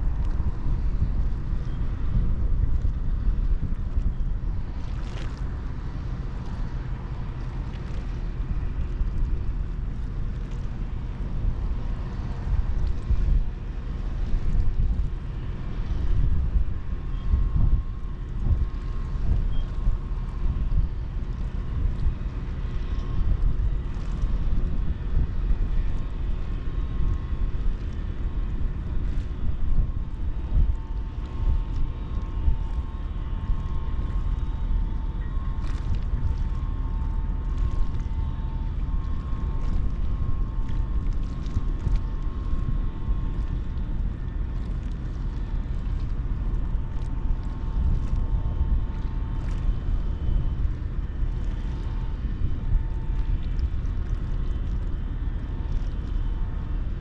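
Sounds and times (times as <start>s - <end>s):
faint steady hum: 0.0s - 57.0s
ferry engine low rumble: 0.0s - 57.0s.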